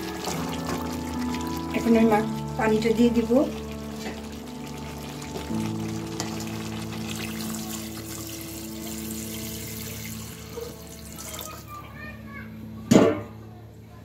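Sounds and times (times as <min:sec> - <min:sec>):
water pouring into a pot: 0:00.0 - 0:11.7.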